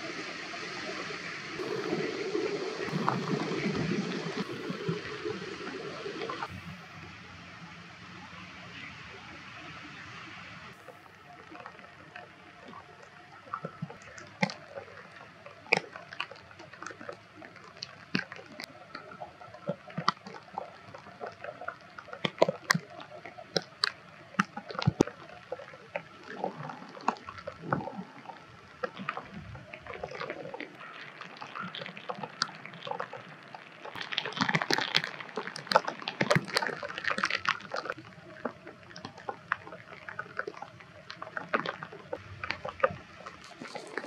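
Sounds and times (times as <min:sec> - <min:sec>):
water dripping: 0:00.0 - 0:44.0
water splashing: 0:00.0 - 0:44.0.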